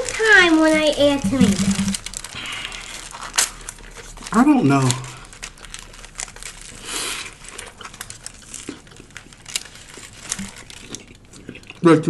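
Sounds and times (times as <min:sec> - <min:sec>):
paper wrapper crinkling: 0:00.0 - 0:11.8.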